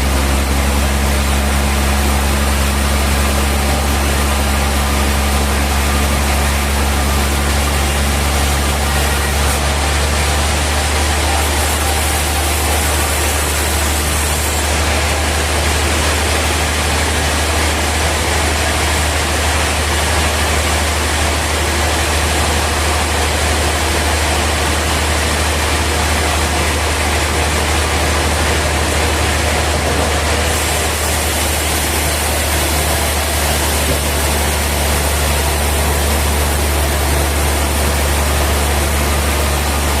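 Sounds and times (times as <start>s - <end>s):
sawmill saws running: 0.0s - 40.0s.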